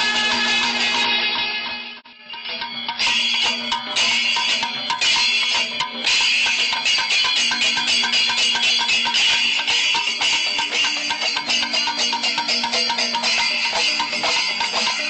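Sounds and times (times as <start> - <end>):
brass hand cymbals clashing: 0.0 - 15.0
drums: 0.0 - 15.0.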